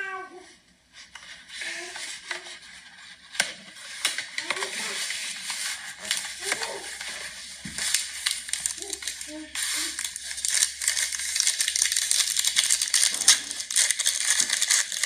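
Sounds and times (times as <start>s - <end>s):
cardboard packaging rustling: 1.0s - 15.0s.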